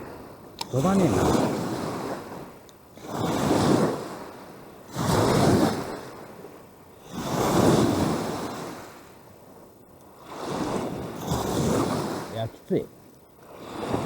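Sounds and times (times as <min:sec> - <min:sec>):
waves breaking against shore: 0:00.0 - 0:14.0
wind buffeting microphone: 0:00.0 - 0:14.0.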